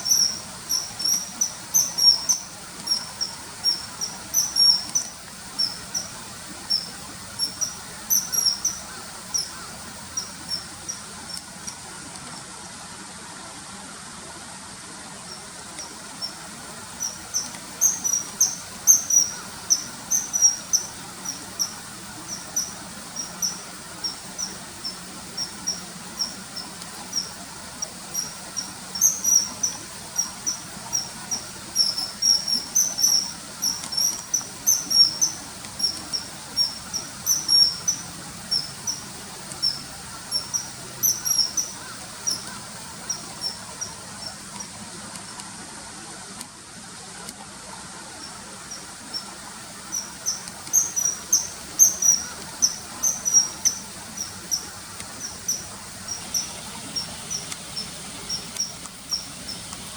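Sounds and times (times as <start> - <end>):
kingfisher shrill piping calls: 0.0 - 11.1, 15.3 - 44.3, 49.1 - 59.9.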